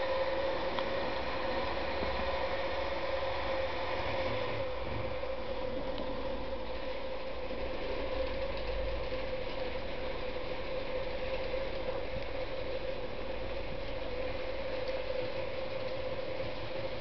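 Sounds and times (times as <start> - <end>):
machine hum with grainy rasp: 0.0 - 17.0.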